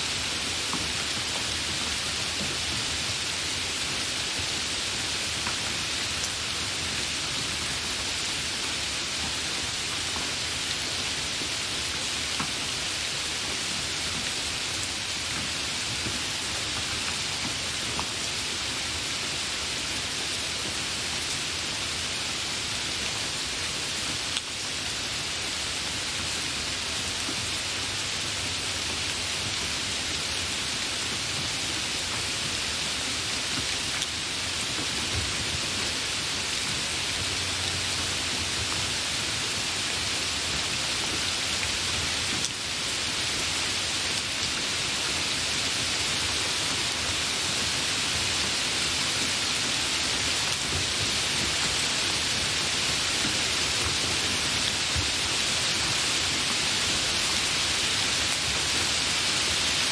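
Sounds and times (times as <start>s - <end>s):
hard rain falling: 0.0s - 59.9s.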